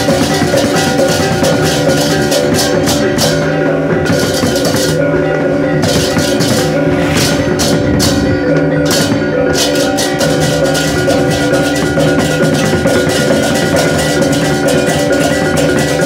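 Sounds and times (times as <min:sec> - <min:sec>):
drumming: 0:00.0 - 0:16.0
tuned metal percussion: 0:00.0 - 0:16.0.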